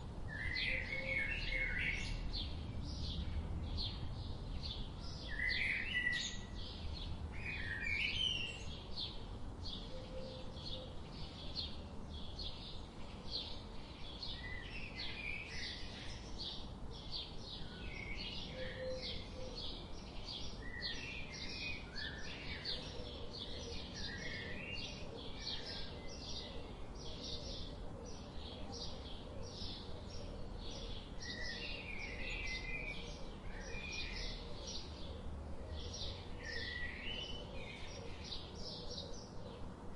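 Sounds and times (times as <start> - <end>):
birds chirping and warbling: 0.0 - 39.9.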